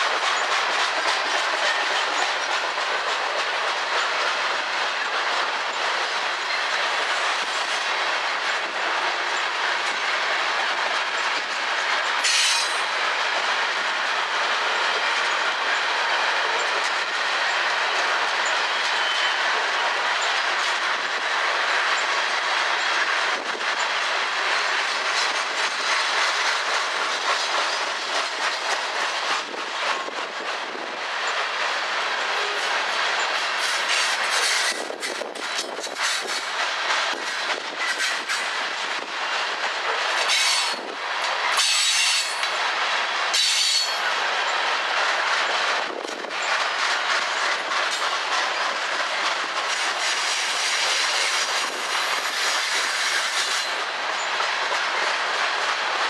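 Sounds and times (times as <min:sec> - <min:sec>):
freight train rolling past: 0:00.0 - 0:56.0
steel wheels on rail: 0:00.0 - 0:56.0.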